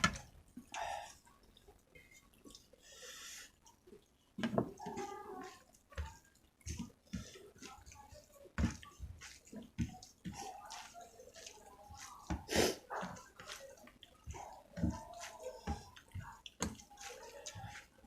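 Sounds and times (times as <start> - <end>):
wet chewing and lip-smacking: 0.0 - 18.0.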